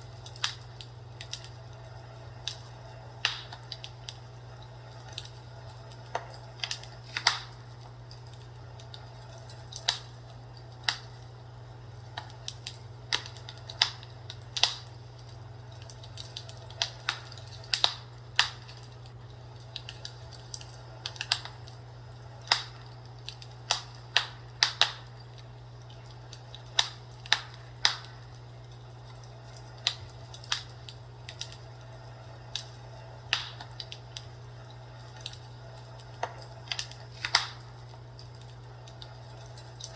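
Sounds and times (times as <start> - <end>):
steady low hum: 0.0 - 39.9
wood fire crackling and popping: 0.0 - 39.9.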